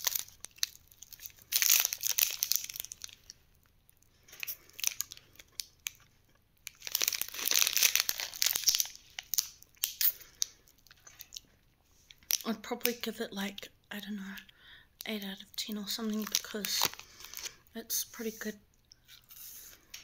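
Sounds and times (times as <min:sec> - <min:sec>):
plastic wrapper crinkling: 0:00.0 - 0:13.1, 0:15.0 - 0:18.3.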